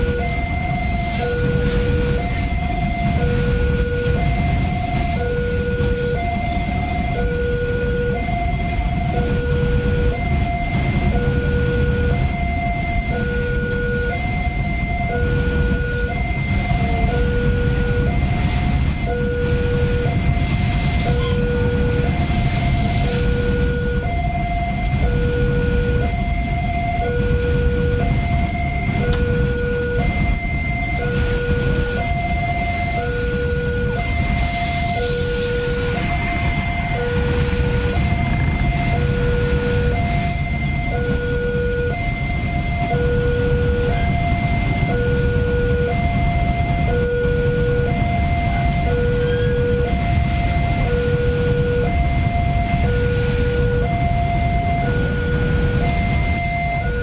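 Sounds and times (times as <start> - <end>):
freight train rumbling: 0.0 - 57.0
two-tone level crossing alarm: 0.0 - 57.0.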